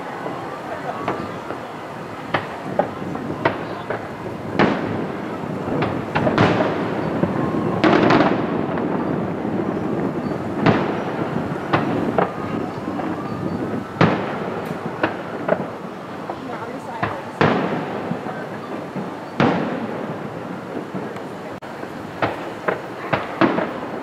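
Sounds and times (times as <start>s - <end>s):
fireworks bangs: 0.0s - 24.0s
steady wash of noise: 0.0s - 24.0s.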